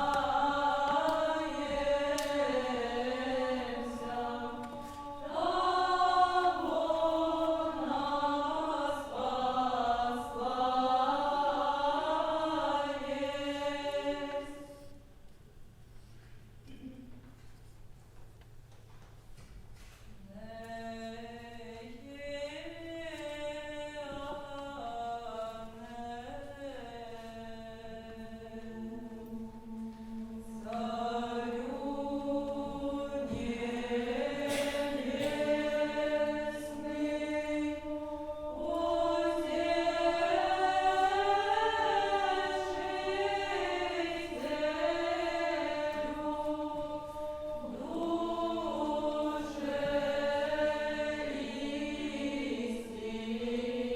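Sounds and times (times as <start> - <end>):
vocal ensemble chanting: 0.0 - 15.1, 20.2 - 53.9.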